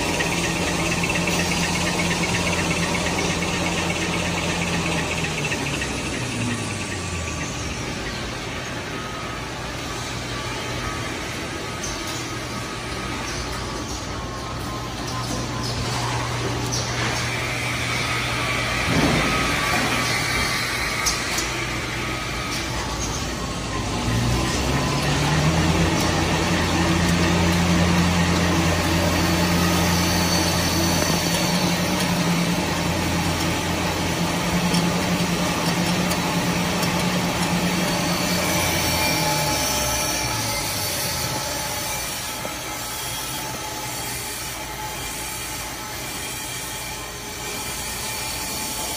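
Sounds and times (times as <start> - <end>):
deeper drone: 0.0 - 48.9
machinery humming: 0.0 - 48.9.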